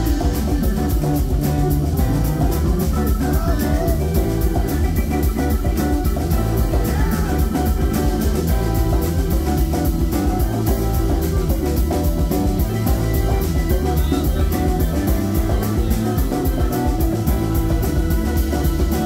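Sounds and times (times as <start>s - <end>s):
drum kit cymbals: 0.0s - 19.0s
keyboards: 0.0s - 19.0s
live rock band: 0.0s - 19.0s.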